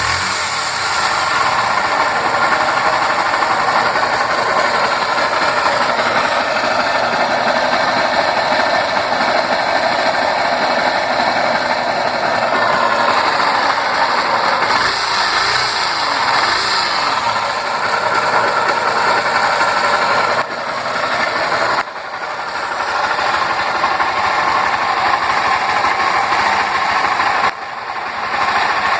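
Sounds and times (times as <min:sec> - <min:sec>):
motorcycle engine running with rattle: 0:00.0 - 0:28.9.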